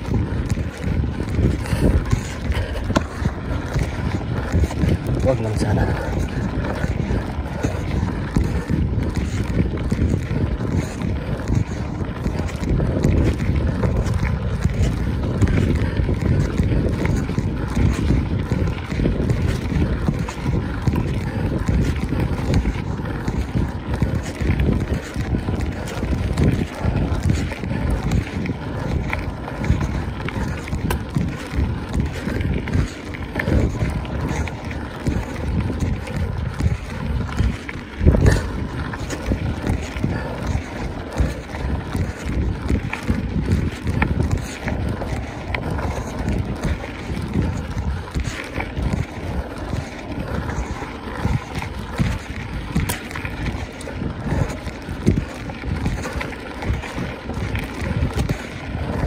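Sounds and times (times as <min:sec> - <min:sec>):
bike knocking and rattling: 0:00.0 - 0:59.0
wind buffeting microphone: 0:00.0 - 0:59.0.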